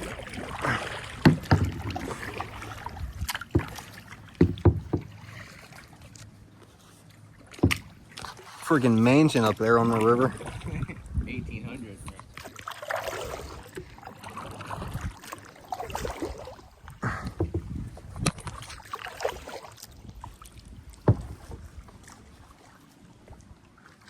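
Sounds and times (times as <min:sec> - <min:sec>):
kayak paddle splashing: 0:00.0 - 0:24.0.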